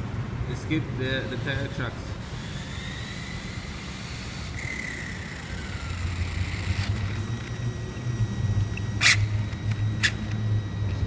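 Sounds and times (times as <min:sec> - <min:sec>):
electric motor whine: 0:01.3 - 0:11.0.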